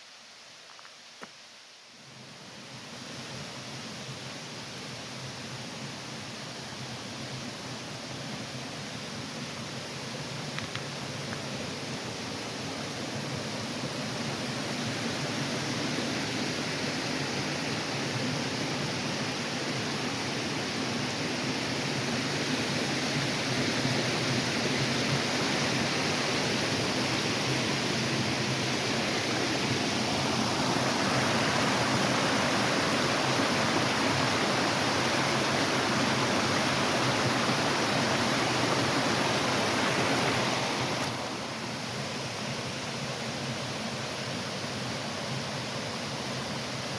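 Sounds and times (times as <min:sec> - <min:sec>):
waterfall stream rushing: 0:03.1 - 0:46.9.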